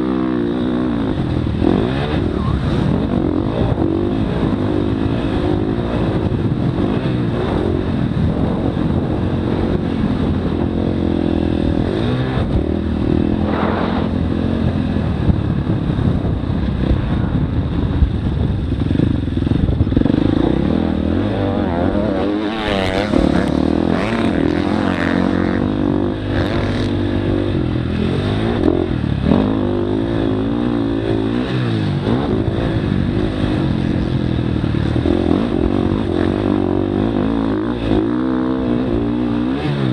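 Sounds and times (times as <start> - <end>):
dirt bike engine revving: 0.0 - 18.0, 18.6 - 39.9.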